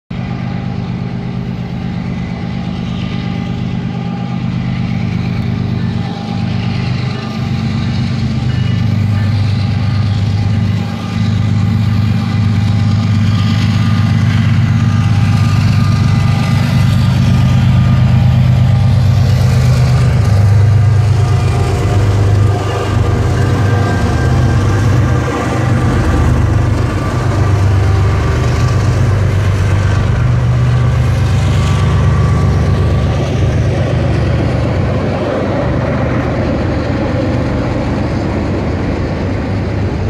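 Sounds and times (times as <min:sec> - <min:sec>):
diesel locomotive engine drone: 0:00.1 - 0:40.0.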